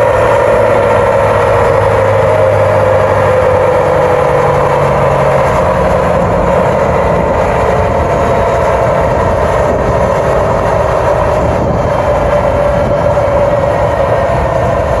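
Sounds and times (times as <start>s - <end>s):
diesel engine droning under load: 0.0s - 15.0s
tyres on dyno rollers: 0.0s - 15.0s.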